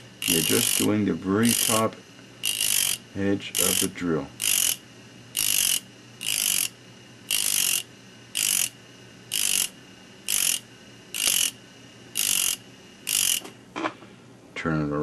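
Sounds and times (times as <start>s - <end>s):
rotary tool grinding metal: 0.0s - 13.5s
faint rotary tool hum: 0.0s - 14.1s.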